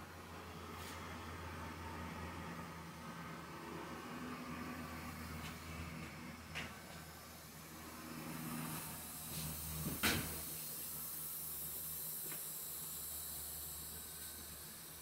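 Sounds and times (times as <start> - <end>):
machine low hum and hiss: 0.0 - 15.0.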